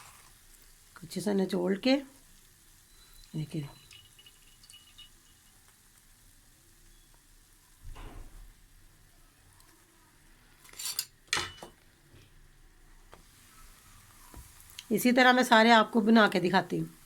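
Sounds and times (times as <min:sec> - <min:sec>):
bread sizzling in oil: 0:00.0 - 0:17.0.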